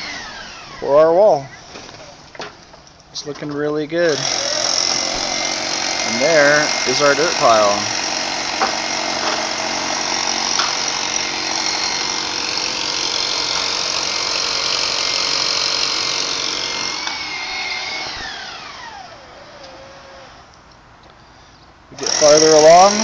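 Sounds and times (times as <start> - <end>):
motor running and winding down: 0.0 - 1.2, 4.1 - 20.5, 22.0 - 23.0.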